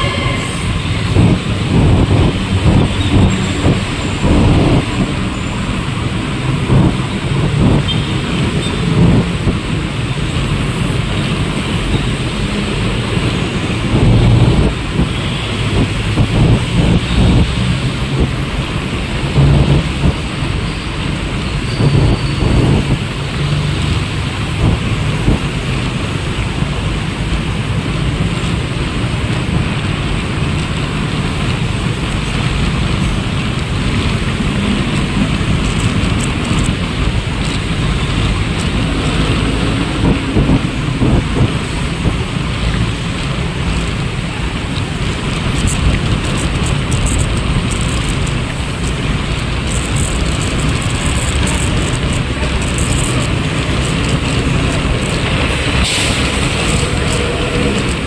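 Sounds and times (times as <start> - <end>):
road and traffic noise: 0.0 - 58.0
wind rumble on microphone: 0.0 - 58.0.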